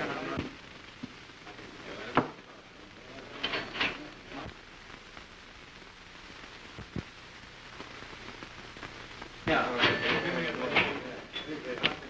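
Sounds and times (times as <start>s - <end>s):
film soundtrack crackle and hiss: 0.0s - 12.0s.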